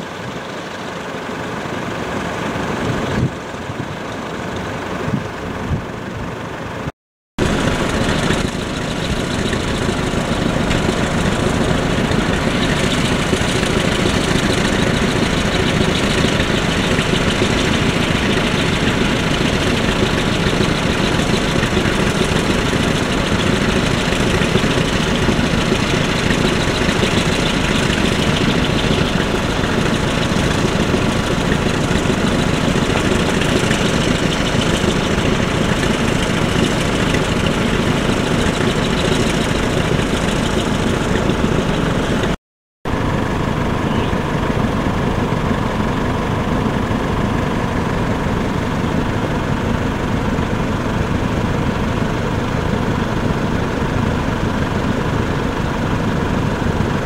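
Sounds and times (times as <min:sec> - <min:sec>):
tractor engines idling: 0:00.0 - 0:57.0.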